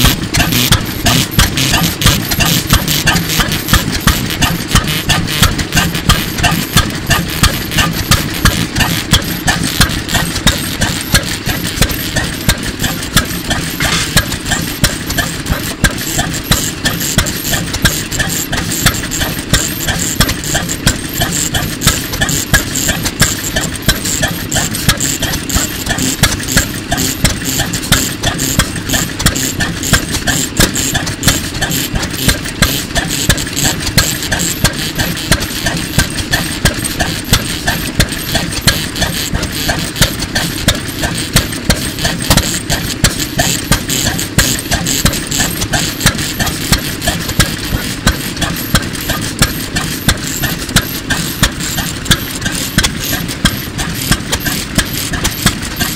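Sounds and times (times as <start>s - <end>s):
engine mechanical clatter: 0.0s - 55.9s
stationary engine exhaust beats: 0.0s - 55.9s.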